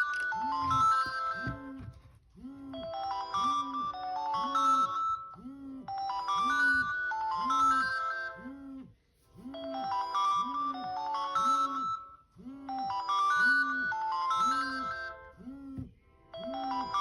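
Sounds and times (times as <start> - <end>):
smartphone ringtone melody: 0.0 - 1.9, 2.7 - 8.6, 9.4 - 15.4, 16.3 - 17.0.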